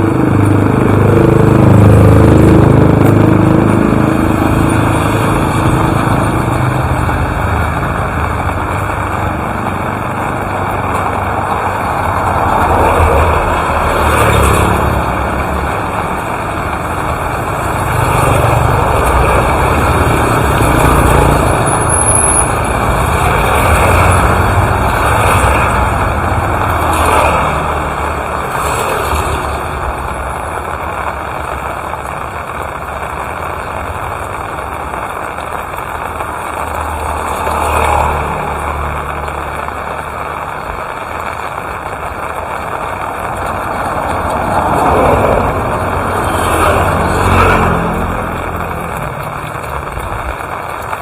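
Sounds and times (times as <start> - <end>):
steady rainfall: 0.0 - 51.0.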